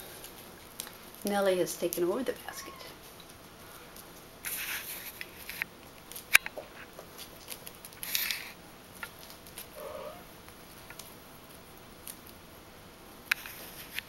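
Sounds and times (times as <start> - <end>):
kittens rustling and scratching: 0.0 - 12.4, 13.3 - 14.0.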